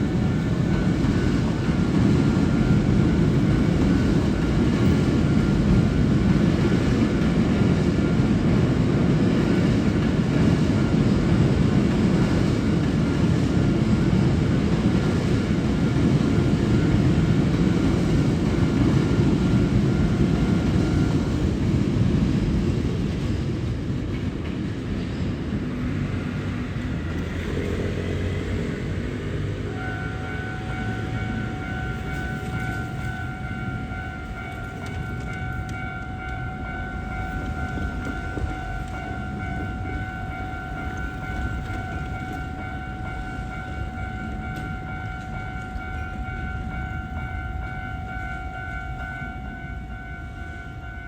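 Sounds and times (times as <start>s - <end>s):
train rumble: 0.0s - 51.0s.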